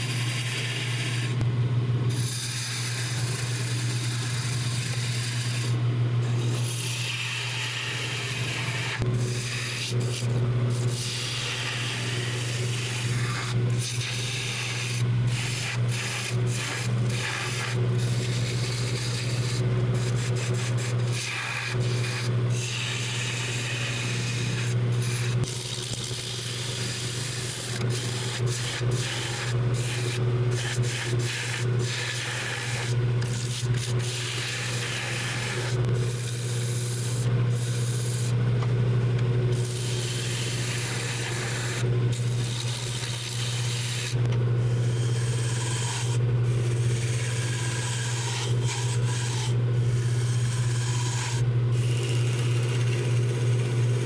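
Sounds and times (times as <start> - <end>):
gouge scraping spinning wood: 0.0 - 1.4, 2.1 - 38.4, 39.5 - 54.0
wood lathe motor hum: 0.0 - 54.0.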